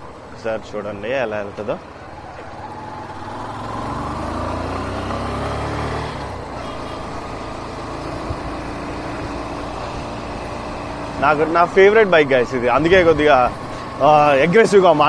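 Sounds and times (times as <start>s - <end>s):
motorcycle engine under throttle: 2.2s - 15.0s.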